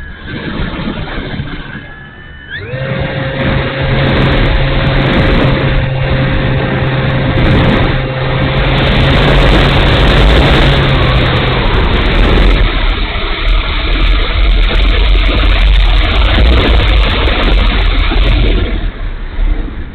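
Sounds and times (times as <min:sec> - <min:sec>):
model plane motor humming: 0:00.0 - 0:18.9
wind buffeting microphone: 0:00.0 - 0:19.9.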